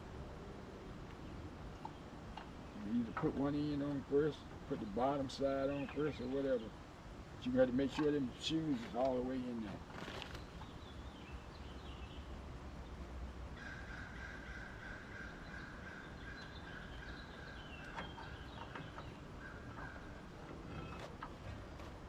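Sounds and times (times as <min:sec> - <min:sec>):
birds chirping: 0:01.1 - 0:22.0.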